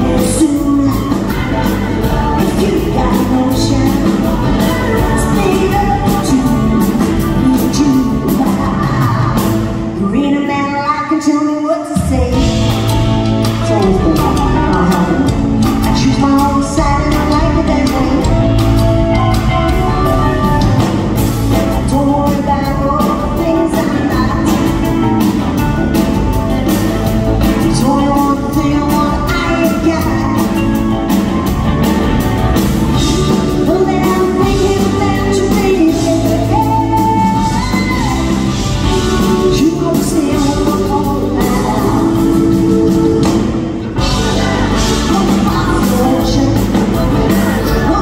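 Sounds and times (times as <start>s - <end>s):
rock band playing: 0.0s - 48.0s
woman singing lead: 0.0s - 48.0s.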